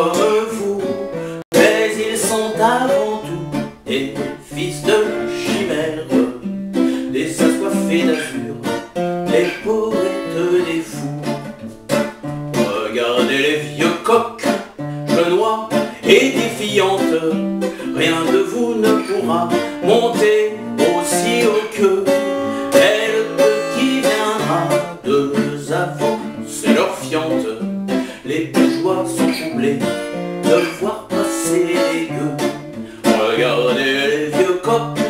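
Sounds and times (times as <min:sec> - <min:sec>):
acoustic guitar picking: 0:00.0 - 0:35.0.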